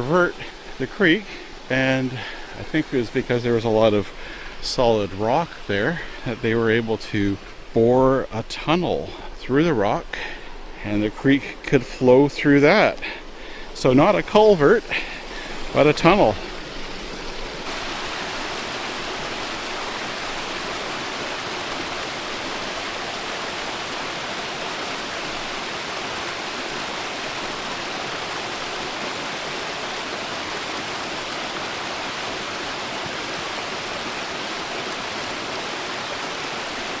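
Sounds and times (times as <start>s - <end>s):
creek water rushing: 0.0s - 37.0s.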